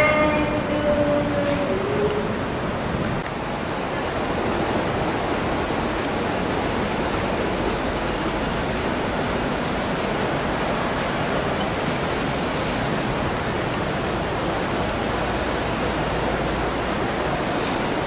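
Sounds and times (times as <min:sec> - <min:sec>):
water rushing in a canal: 0:00.0 - 0:18.0.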